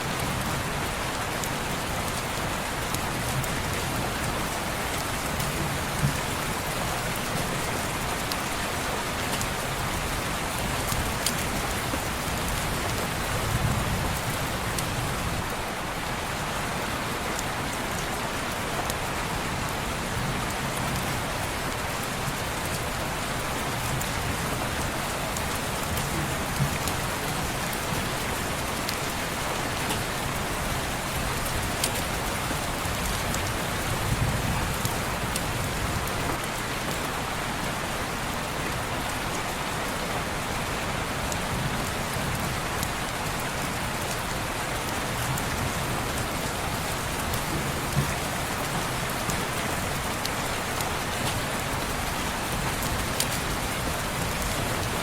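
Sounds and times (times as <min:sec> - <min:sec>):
rain pattering on a window: 0:00.0 - 0:55.0.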